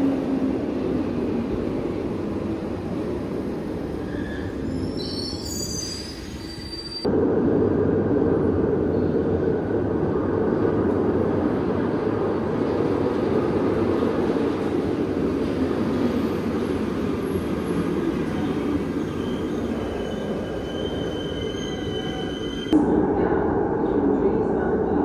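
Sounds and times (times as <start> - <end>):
subway train rumbling: 0.0 - 25.0.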